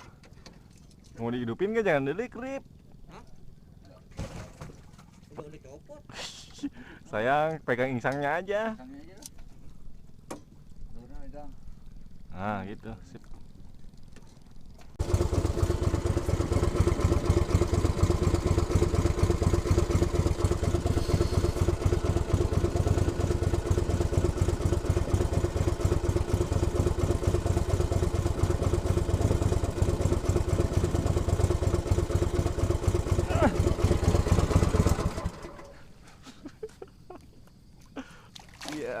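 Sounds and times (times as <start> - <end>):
small boat engine running: 0.0 - 36.3.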